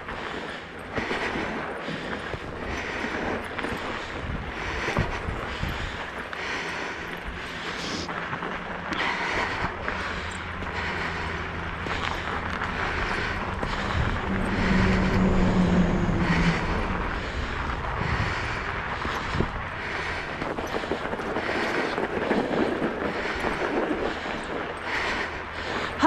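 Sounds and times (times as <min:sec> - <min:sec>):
scooter rolling over snow: 0:00.0 - 0:26.0
vehicle engine hum: 0:00.0 - 0:26.0.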